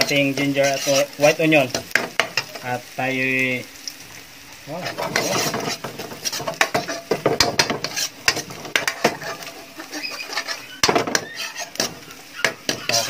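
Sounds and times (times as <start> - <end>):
metal spoon scraping a wok: 0.0 - 2.6, 4.8 - 13.0
onion and ginger frying: 0.0 - 13.0.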